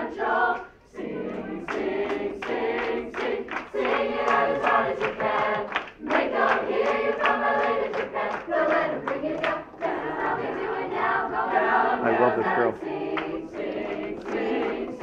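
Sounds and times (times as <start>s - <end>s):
children's choir singing a cappella: 0.0s - 15.0s
rhythmic clapping: 0.0s - 15.0s.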